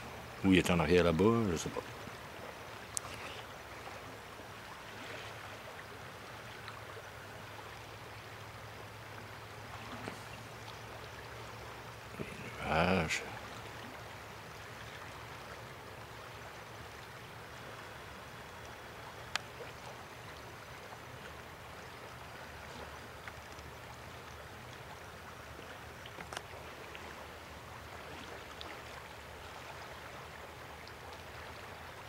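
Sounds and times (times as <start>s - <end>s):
river rushing: 0.0s - 32.0s.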